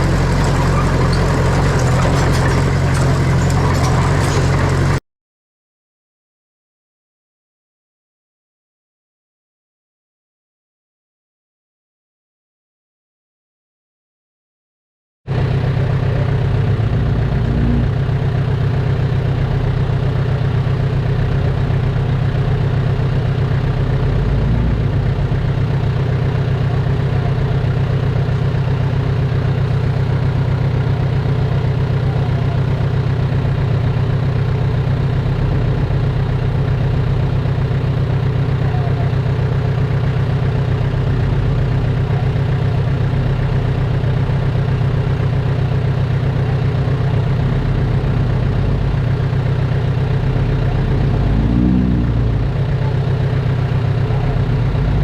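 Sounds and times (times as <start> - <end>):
diesel engine running steadily: 0.0 - 5.0, 15.3 - 55.0.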